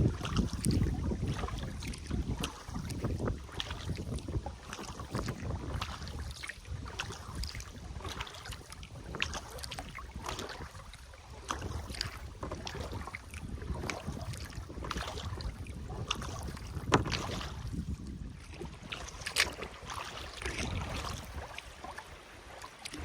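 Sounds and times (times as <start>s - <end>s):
water splashing around kayak: 0.0s - 23.0s
wind rumble on microphone: 0.0s - 23.0s.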